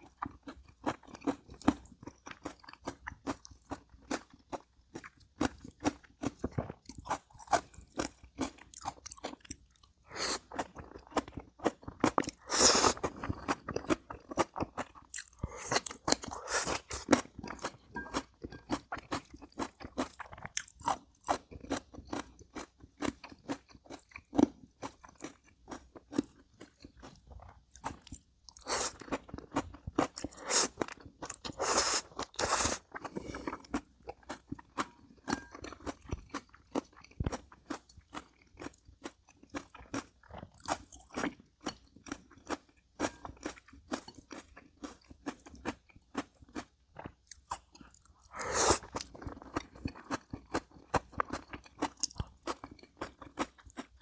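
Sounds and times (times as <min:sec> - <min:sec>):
person crunching crisp food: 0:00.1 - 0:54.0.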